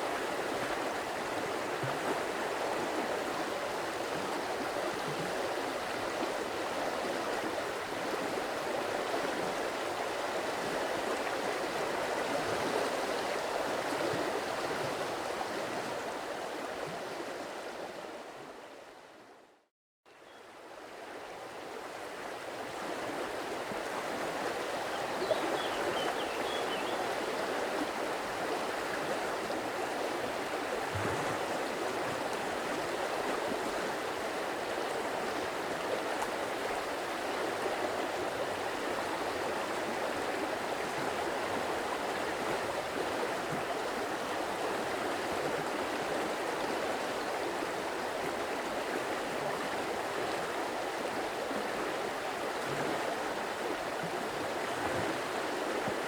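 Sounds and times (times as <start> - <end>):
stream flowing and burbling: 0.0 - 56.0.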